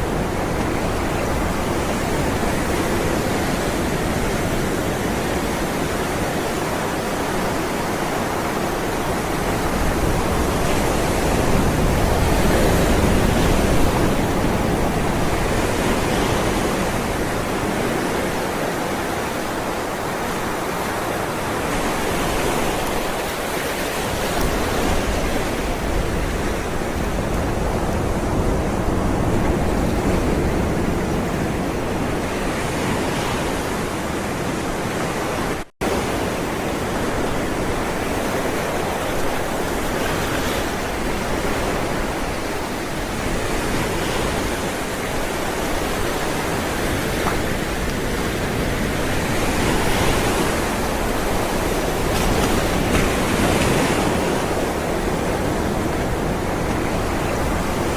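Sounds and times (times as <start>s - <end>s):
ocean waves breaking: 0.0s - 57.9s.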